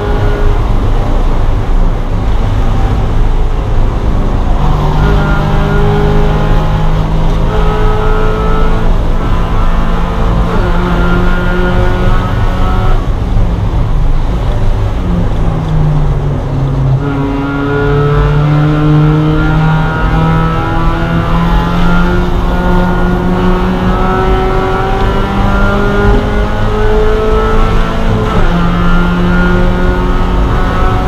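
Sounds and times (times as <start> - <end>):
race car engine accelerating: 0.0 - 31.0
road noise: 0.0 - 31.0.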